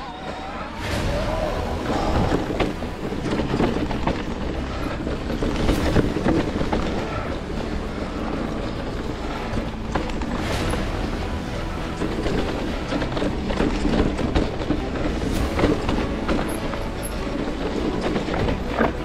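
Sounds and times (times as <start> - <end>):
bike tyres rumbling over dirt: 0.0 - 19.0
bike knocks and rattles: 1.9 - 11.1, 12.0 - 19.0.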